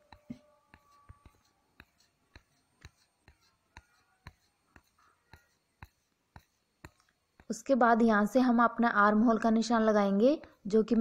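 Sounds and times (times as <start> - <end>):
chalk scraping on cloth: 0.0 - 7.9, 9.9 - 11.0.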